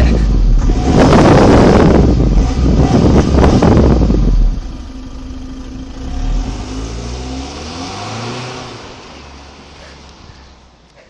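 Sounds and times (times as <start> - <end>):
diesel car exhaust revving: 0.0 - 11.0.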